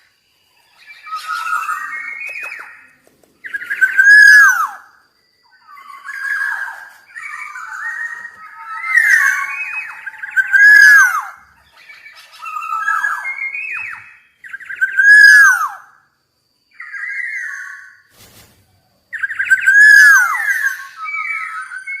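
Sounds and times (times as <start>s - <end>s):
bird singing fluty whistles: 0.0s - 16.0s, 16.7s - 18.1s, 19.1s - 22.0s.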